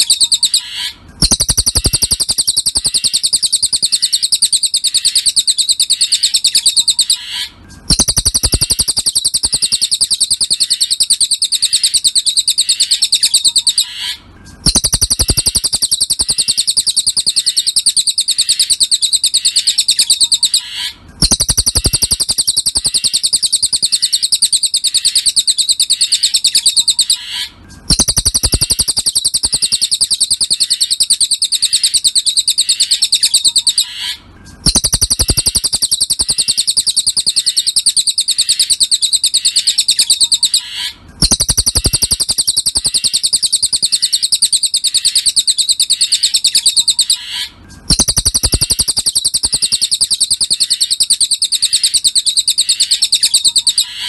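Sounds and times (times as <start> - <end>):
bird singing high trill: 0.0 - 54.0.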